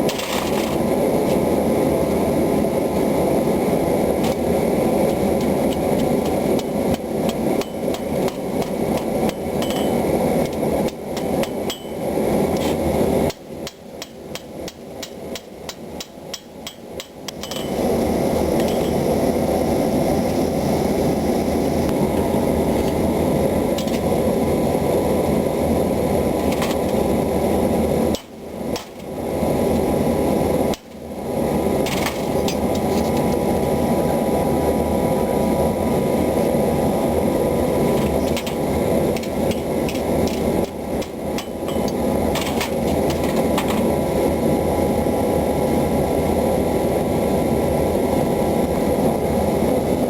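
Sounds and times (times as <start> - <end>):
loud steady rushing noise: 0.0 - 50.0.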